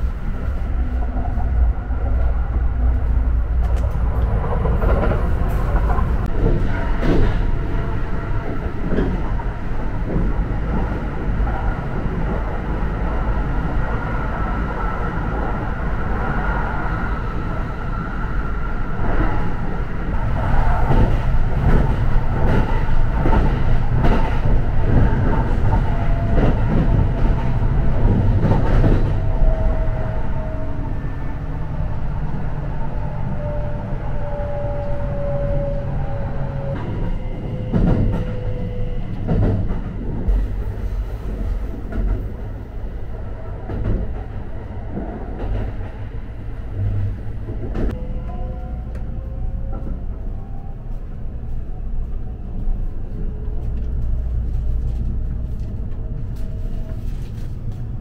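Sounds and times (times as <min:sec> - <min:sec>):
train running rumble: 0:00.0 - 0:58.0.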